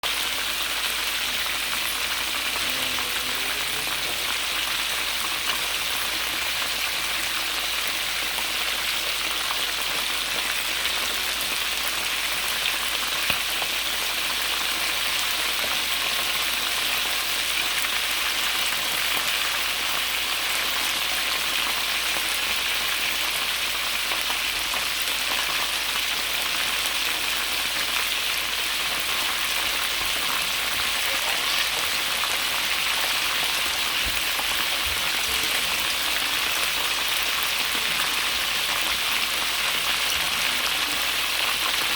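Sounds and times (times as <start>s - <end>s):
chicken sizzling in hot oil: 0.0s - 41.9s.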